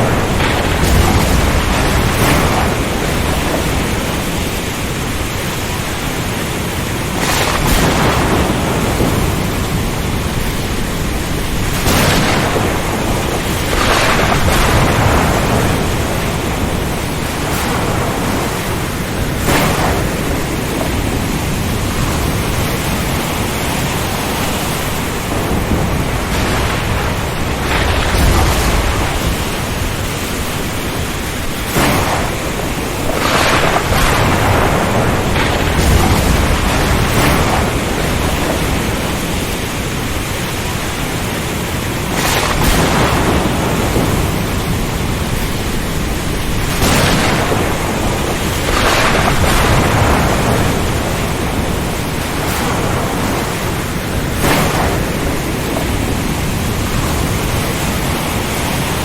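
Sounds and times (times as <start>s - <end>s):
strong wind: 0.0s - 59.0s
surf crashing: 0.0s - 59.0s.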